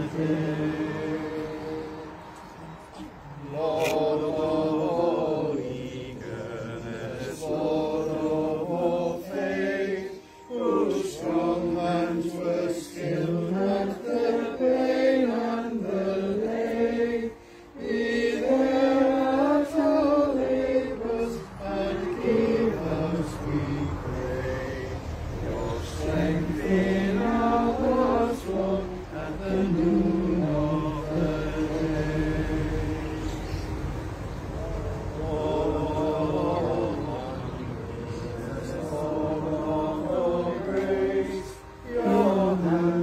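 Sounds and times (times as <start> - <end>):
congregation singing a hymn: 0.0 - 43.0.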